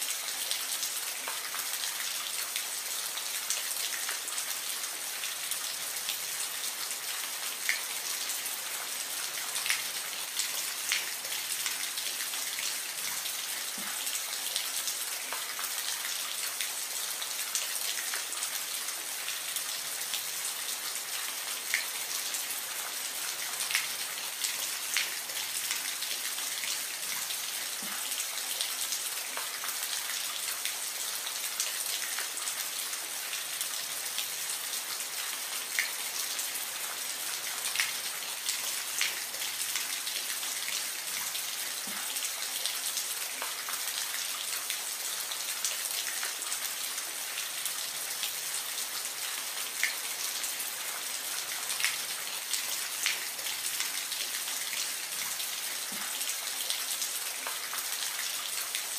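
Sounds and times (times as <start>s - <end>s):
soft rain hiss: 0.0s - 58.9s.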